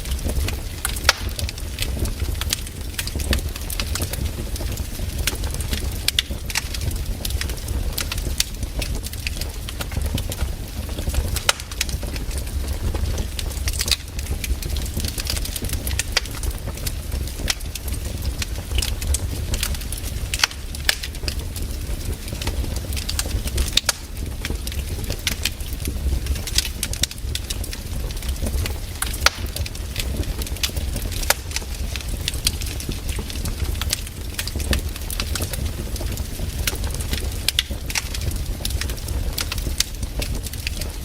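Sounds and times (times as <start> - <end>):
campfire crackling and popping: 0.0 - 41.0
low rumble of flames: 0.0 - 41.0.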